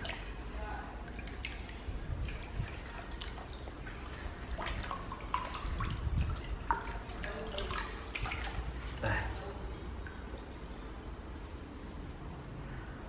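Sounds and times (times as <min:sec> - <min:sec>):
water sloshing in plastic basin: 0:00.0 - 0:10.6
water dripping: 0:00.0 - 0:10.8.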